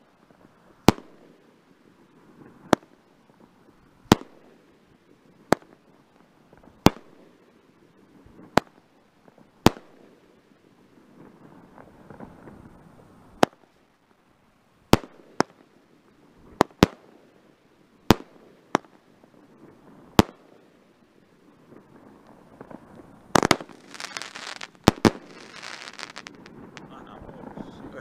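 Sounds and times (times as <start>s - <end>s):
firework crackling: 0.0s - 28.0s
firework bangs: 0.2s - 13.7s, 14.9s - 17.4s, 18.0s - 28.0s.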